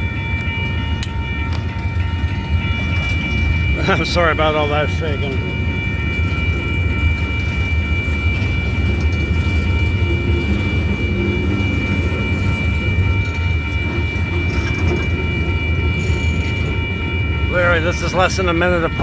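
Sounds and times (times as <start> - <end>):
freight train rumble: 0.0 - 19.0
high-pitched tone: 0.0 - 19.0.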